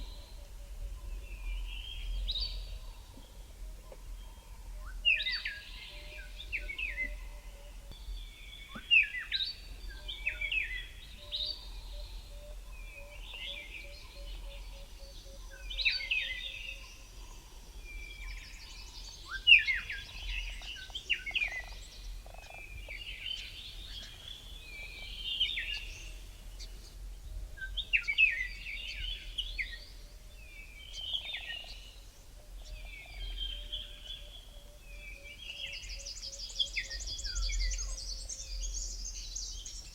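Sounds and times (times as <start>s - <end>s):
chorus of birds singing: 0.0s - 39.9s.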